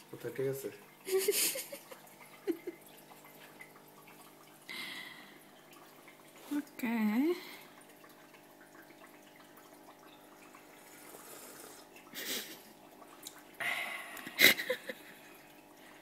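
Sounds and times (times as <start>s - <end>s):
low steady hum: 0.0s - 16.0s
water trickling and dripping: 0.0s - 16.0s.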